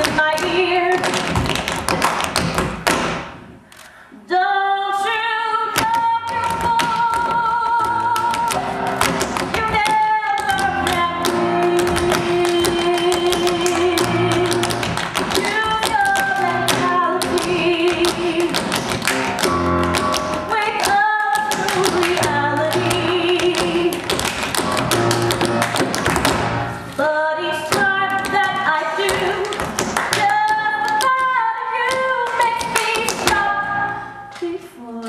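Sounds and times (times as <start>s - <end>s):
tap shoes clicking on stage: 0.0s - 3.2s, 5.8s - 26.6s, 27.7s - 33.4s
accompanying music: 5.8s - 34.2s.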